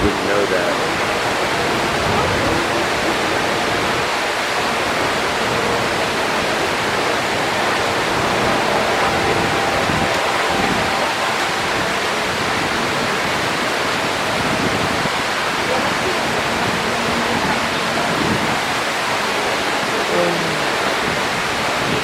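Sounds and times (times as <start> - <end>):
waterfall rushing into lagoon: 0.0 - 22.0.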